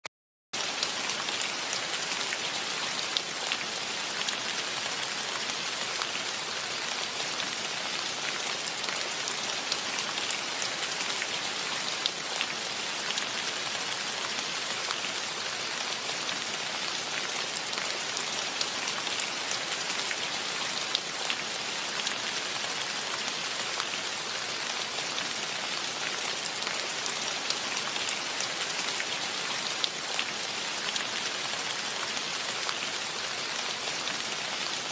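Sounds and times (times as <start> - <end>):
steady rain falling: 0.6 - 34.9.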